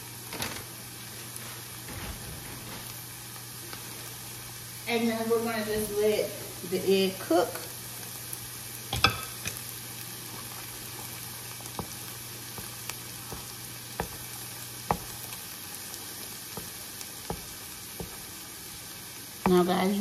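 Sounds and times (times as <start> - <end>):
fried rice sizzling in a pan: 0.0 - 20.0.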